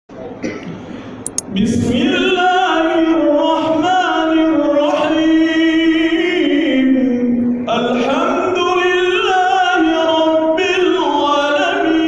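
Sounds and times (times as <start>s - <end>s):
man chanting recitation: 1.4s - 12.0s.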